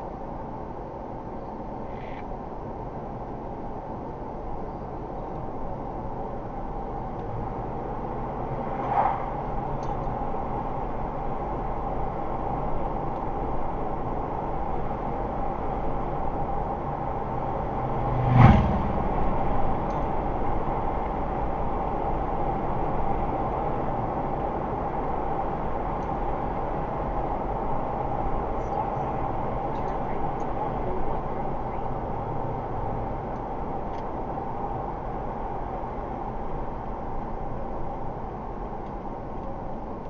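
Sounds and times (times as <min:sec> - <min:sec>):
car tyre and engine noise: 0:00.0 - 0:40.0.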